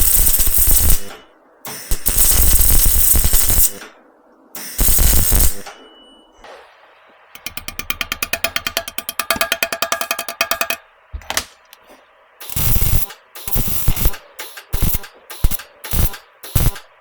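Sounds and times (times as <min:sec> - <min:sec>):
arc welder crackling: 0:00.0 - 0:03.9, 0:04.6 - 0:05.8, 0:07.4 - 0:11.8, 0:12.4 - 0:17.0.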